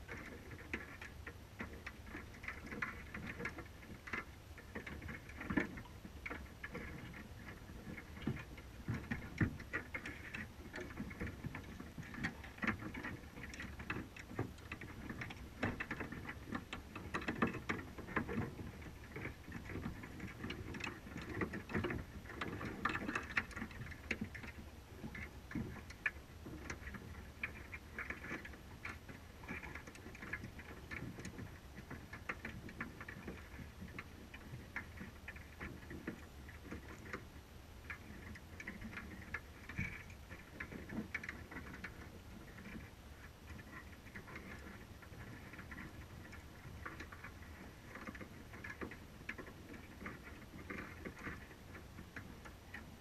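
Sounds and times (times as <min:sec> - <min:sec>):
underwater clicks and ticks: 0:00.0 - 0:53.0.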